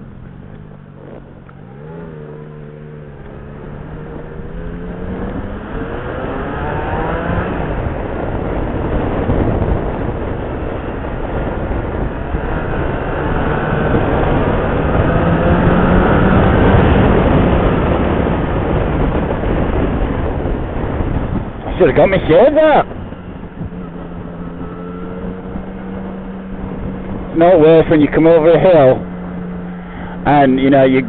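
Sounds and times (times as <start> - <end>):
motorcycle engine accelerating: 0.0 - 31.0
wind rush on microphone: 0.0 - 31.0.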